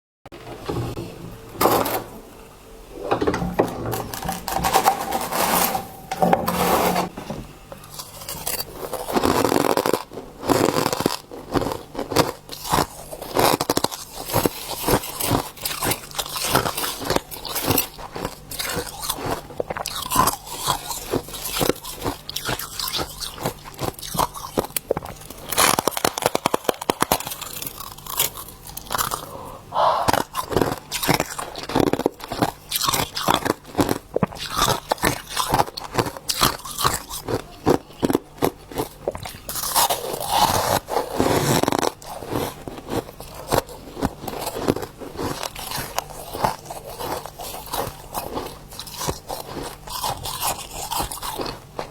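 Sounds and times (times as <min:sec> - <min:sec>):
freezer frost crunching: 0:03.7 - 0:51.9.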